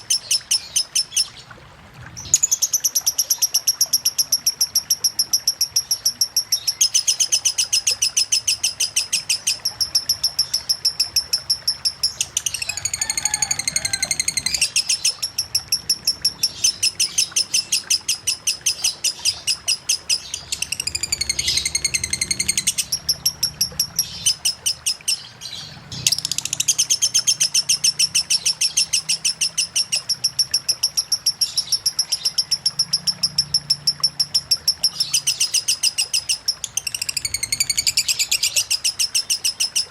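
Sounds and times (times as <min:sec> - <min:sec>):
lovebird chirping rapidly: 0:02.2 - 0:39.9.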